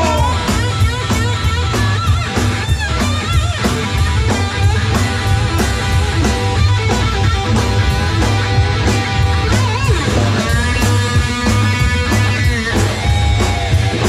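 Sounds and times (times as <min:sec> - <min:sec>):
bass guitar: 0:00.0 - 0:14.0
drum beat: 0:00.0 - 0:14.0
electric guitar lead: 0:00.0 - 0:14.0.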